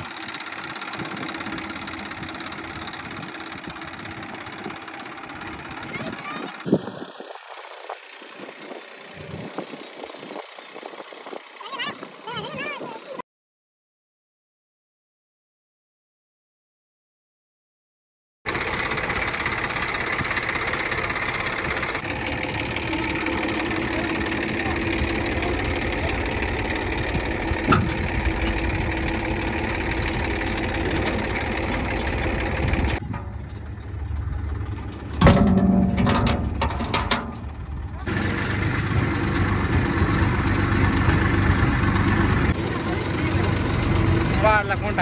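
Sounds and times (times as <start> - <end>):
tractor engine running: 0.0 - 13.2, 18.5 - 45.0.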